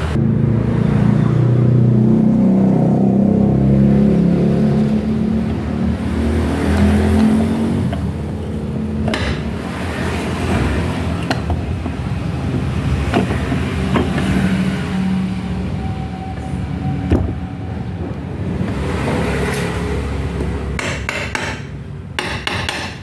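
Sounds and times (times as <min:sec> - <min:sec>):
low motor drone: 0:00.0 - 0:20.8.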